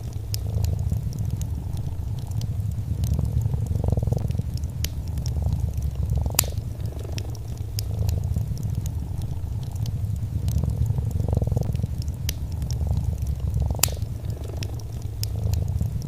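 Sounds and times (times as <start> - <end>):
cat purring: 0.0 - 16.0
fireplace fire crackling: 0.0 - 16.0.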